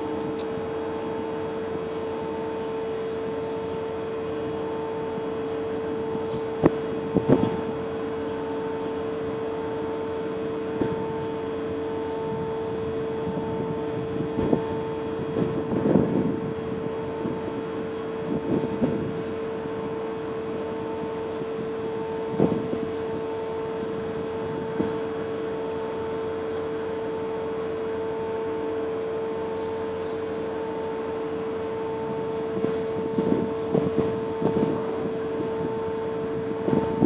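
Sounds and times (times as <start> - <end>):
ship machinery hum: 0.0 - 37.0.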